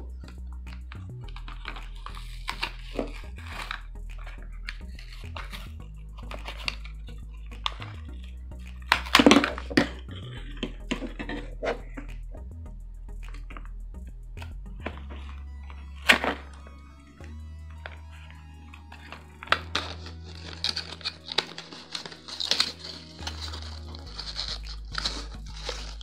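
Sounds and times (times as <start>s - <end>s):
background music: 0.0s - 26.0s
clicks and crinkles: 0.7s - 12.3s, 14.4s - 26.0s.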